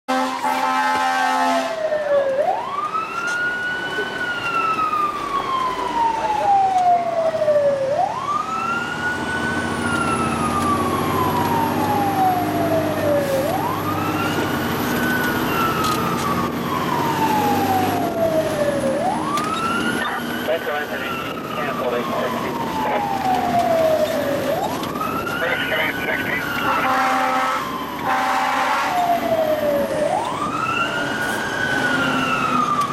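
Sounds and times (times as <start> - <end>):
fire engine siren wailing: 0.1 - 32.9.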